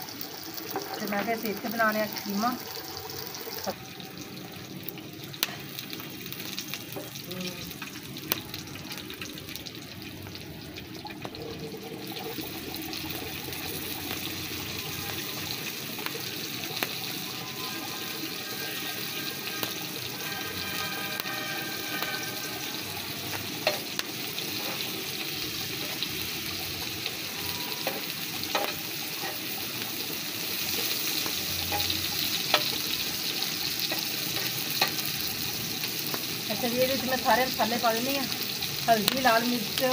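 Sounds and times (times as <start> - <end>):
vegetables sizzling in oil: 0.0 - 39.9.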